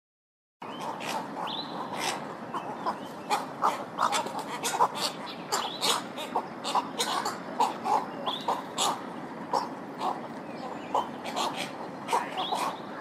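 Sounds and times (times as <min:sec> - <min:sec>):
egrets calling: 0:00.6 - 0:13.0
steady background hiss: 0:00.6 - 0:13.0.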